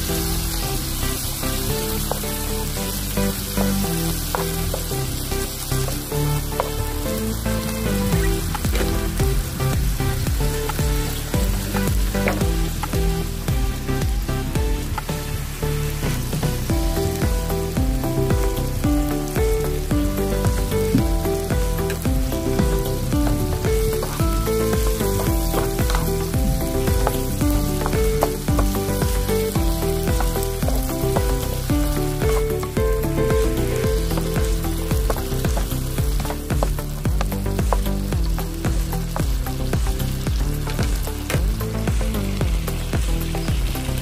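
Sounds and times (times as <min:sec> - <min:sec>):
background music with bass: 0:00.0 - 0:44.0
food sizzling in frying pan: 0:00.0 - 0:44.0.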